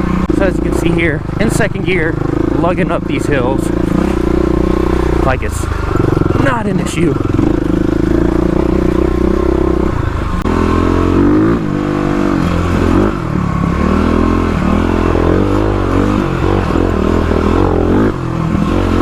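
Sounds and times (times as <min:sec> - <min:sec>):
dirt bike engine lugging uphill: 0:00.0 - 0:19.0.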